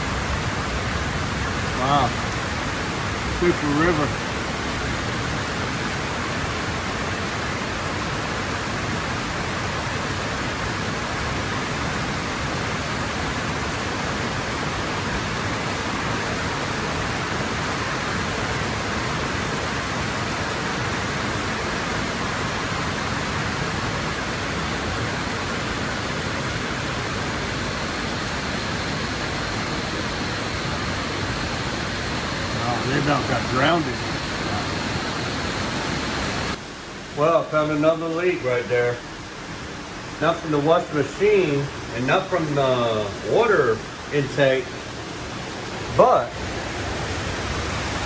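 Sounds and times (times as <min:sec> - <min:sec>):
heavy rain: 0:00.0 - 0:48.0
runoff water rushing: 0:00.0 - 0:48.0.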